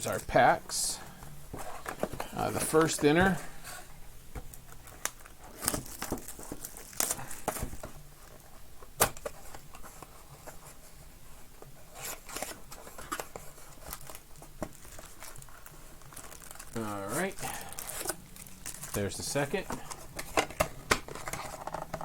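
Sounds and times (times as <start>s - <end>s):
foil packs rustling: 0.0s - 3.9s, 4.5s - 11.0s, 11.6s - 22.0s.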